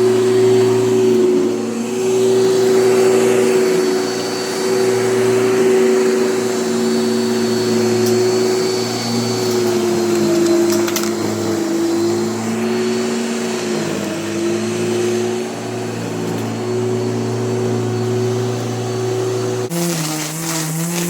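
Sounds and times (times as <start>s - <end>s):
electric lawn mower humming: 0.0s - 21.0s.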